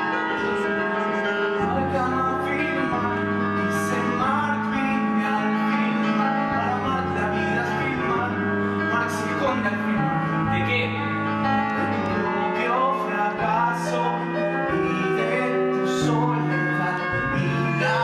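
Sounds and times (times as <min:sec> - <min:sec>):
instrumental accompaniment: 0:00.0 - 0:18.0
man singing: 0:00.0 - 0:18.0.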